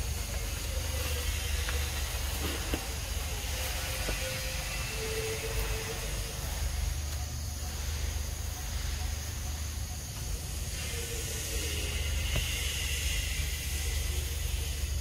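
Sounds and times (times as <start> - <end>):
even hiss: 0.0 - 15.0
faint whistle-like tones: 0.0 - 15.0.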